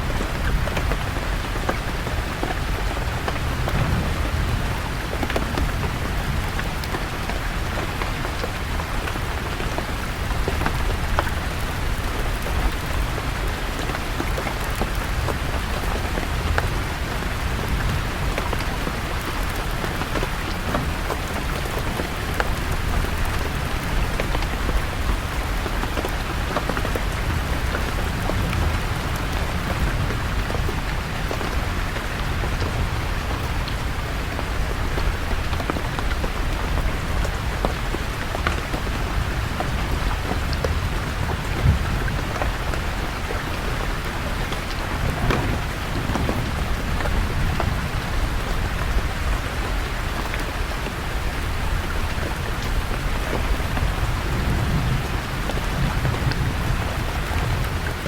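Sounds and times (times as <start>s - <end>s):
heavy rain falling on leaves: 0.0s - 58.0s.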